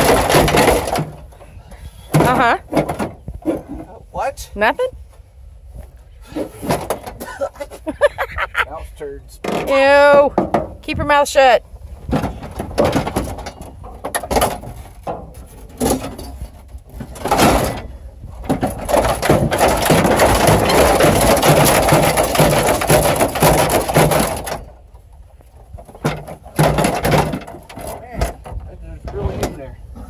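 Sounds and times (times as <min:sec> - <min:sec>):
rough cracking and scraping: 0:00.0 - 0:04.3, 0:05.1 - 0:07.8, 0:09.3 - 0:30.0.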